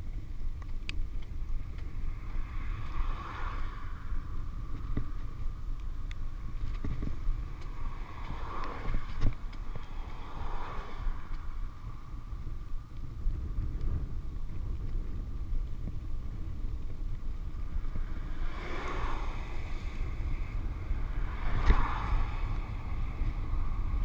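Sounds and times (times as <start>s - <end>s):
wind rumble on microphone: 0.0s - 24.0s
cars passing with tyre hiss: 1.3s - 24.0s.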